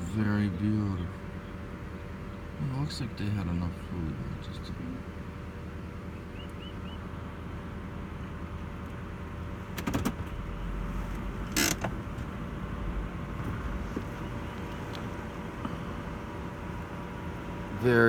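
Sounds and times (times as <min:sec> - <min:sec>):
car interior hum: 0:00.0 - 0:18.0.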